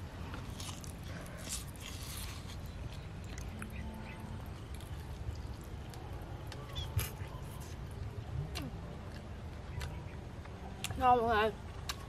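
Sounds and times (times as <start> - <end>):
low background hum: 0.0 - 12.0
chewing and crackly bites: 0.2 - 11.0, 11.8 - 12.0.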